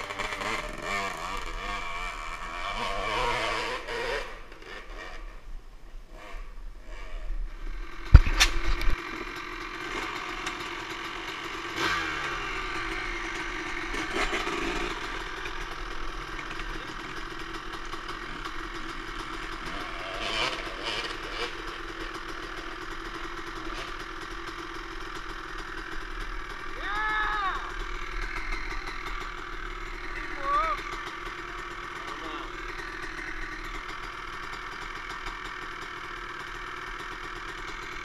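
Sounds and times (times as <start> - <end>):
dirt bike engine running: 0.0 - 38.0.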